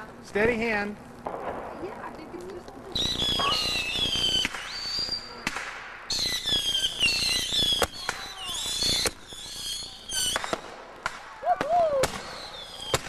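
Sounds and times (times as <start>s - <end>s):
firework cracks and pops: 0.0s - 13.0s
whistling fireworks: 1.3s - 13.0s.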